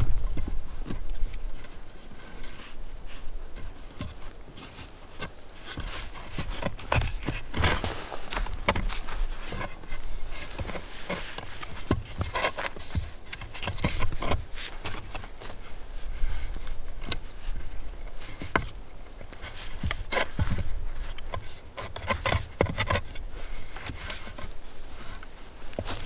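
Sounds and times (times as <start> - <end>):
stick and cord scraping: 0.0 - 26.0.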